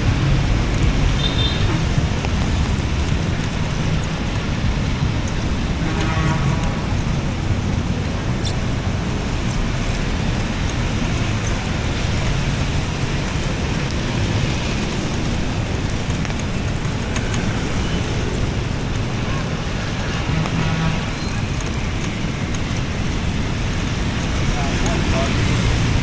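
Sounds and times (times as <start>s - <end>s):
light rain: 0.0s - 26.0s
road traffic noise: 0.0s - 26.0s.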